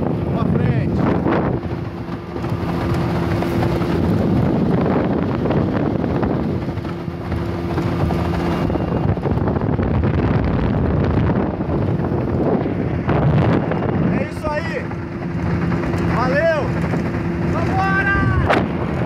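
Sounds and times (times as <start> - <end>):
outboard motor droning: 0.0 - 19.0
wind buffeting microphone: 0.0 - 19.0.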